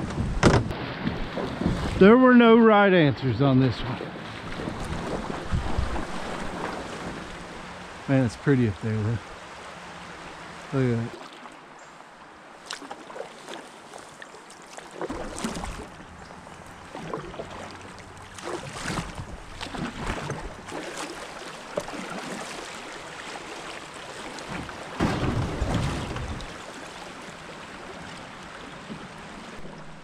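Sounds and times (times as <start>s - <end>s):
paddle splashing in water: 0.0s - 2.1s, 4.0s - 8.1s, 9.4s - 11.7s, 12.5s - 30.0s
deep water rush: 0.0s - 30.0s.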